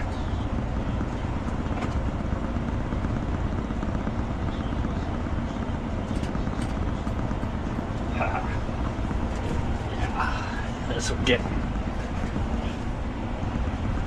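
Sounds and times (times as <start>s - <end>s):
low droning noise: 0.0s - 14.0s.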